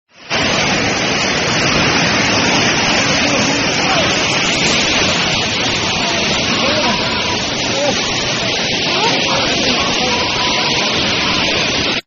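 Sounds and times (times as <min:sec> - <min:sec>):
floodwater rushing in a river: 0:00.1 - 0:12.0
faint voices: 0:00.2 - 0:12.0.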